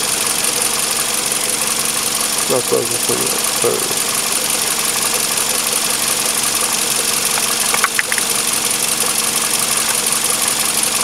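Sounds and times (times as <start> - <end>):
machine running with low hum: 0.0 - 10.7.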